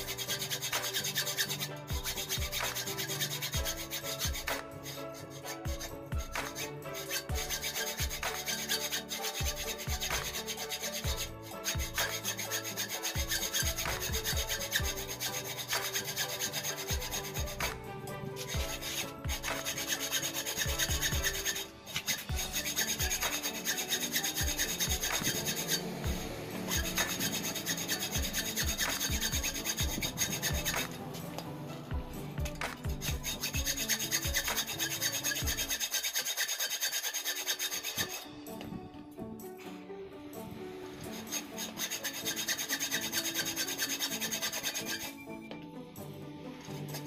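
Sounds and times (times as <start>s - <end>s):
hacksaw rasping on metal: 0.0s - 38.8s, 40.5s - 45.3s, 46.8s - 47.0s.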